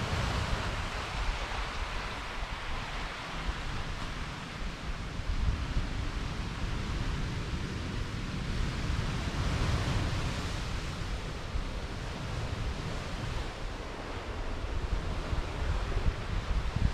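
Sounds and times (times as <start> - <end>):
surf and wind rushing: 0.0 - 16.9
wind buffeting microphone: 0.0 - 16.9.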